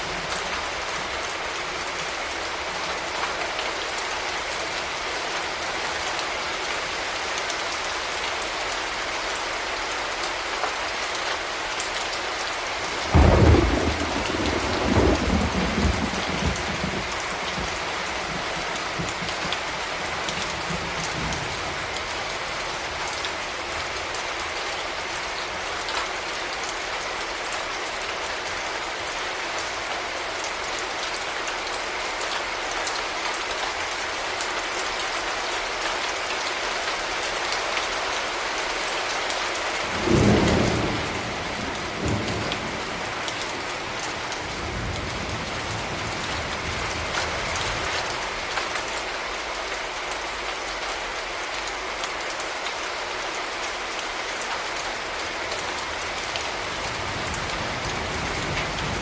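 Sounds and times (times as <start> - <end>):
rain pattering on hard surfaces: 0.0 - 59.0.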